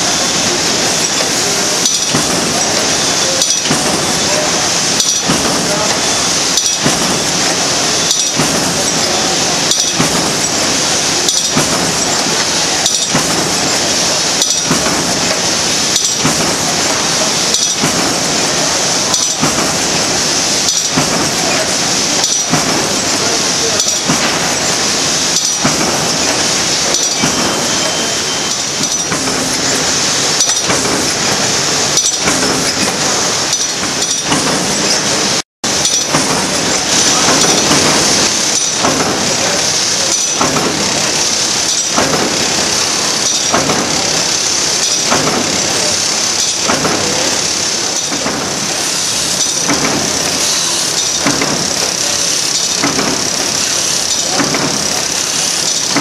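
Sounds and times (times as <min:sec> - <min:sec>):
binding machine clatter: 0:00.0 - 0:56.0
sharp metallic clanks: 0:00.0 - 0:56.0.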